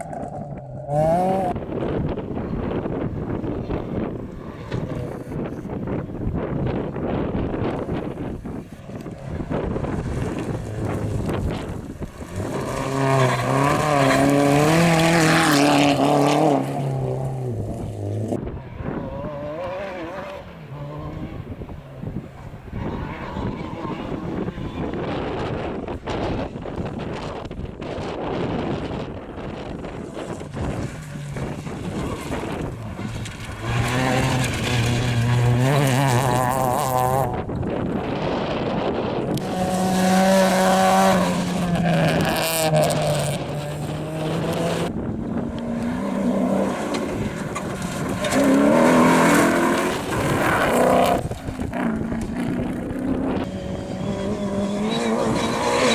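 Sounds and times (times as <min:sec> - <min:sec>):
fainter engine: 0:00.0 - 0:55.9
rally car engine passing: 0:00.0 - 0:55.9
wind buffeting microphone: 0:00.0 - 0:55.9.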